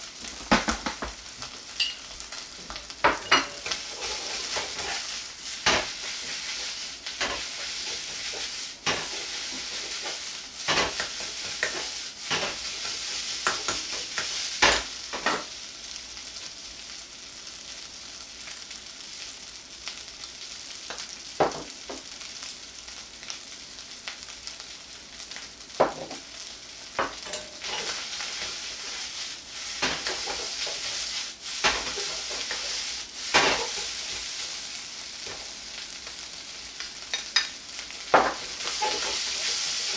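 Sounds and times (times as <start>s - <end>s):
rice frying in a wok: 0.0s - 39.9s.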